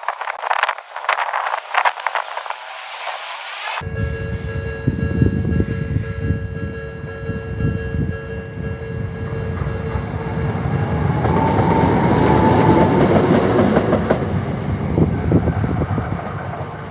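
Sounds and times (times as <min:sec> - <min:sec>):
tram running with high whine: 0:00.0 - 0:16.9.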